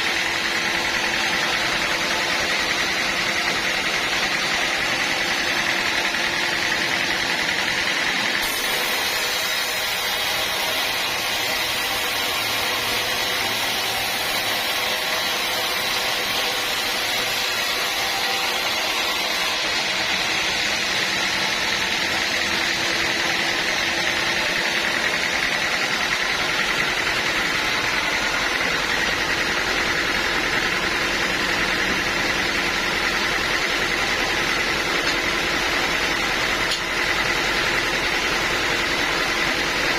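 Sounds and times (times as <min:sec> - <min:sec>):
sawmill machine running: 0:00.0 - 0:39.9.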